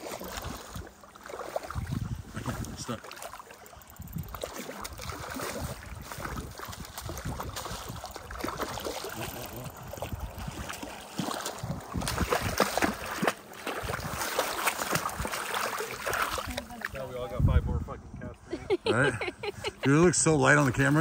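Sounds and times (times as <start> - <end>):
lake water lapping: 0.0 - 17.6, 18.2 - 21.0.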